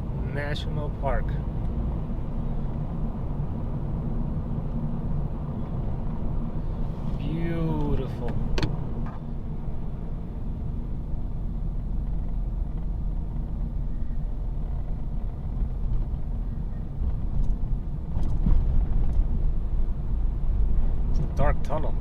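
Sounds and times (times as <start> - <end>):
car driving interior rumble: 0.0 - 22.0.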